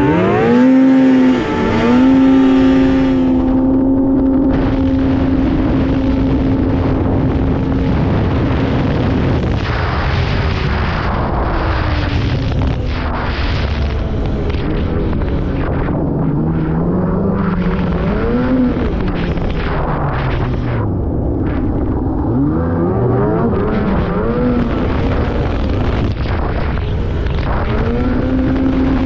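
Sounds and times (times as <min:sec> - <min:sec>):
snowmobile engine revving: 0:00.0 - 0:20.8, 0:21.5 - 0:29.0
steady rushing noise: 0:00.0 - 0:29.0.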